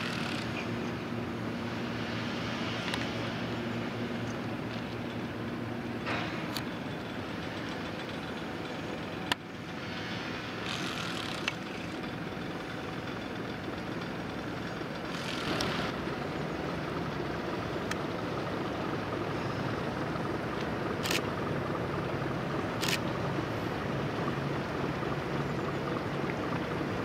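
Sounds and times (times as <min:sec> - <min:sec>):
distant engines rumbling: 0:00.0 - 0:27.0
noisy wash: 0:00.0 - 0:27.0.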